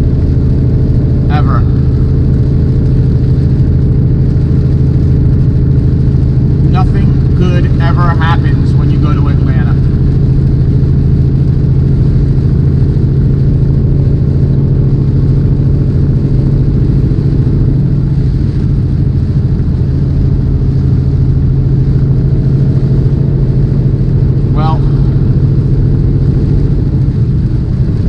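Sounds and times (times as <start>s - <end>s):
diesel truck engine droning: 0.0s - 28.0s.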